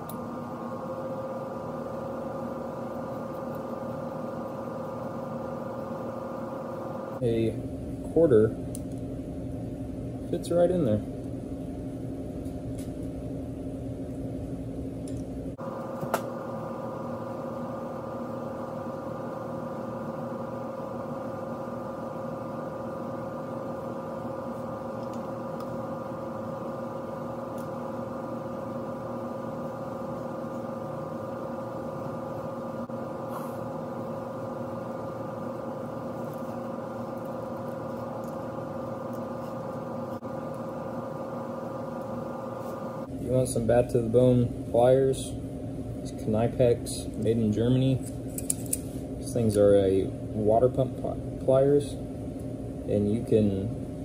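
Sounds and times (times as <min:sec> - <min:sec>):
steady droning hum: 0:00.0 - 0:54.0.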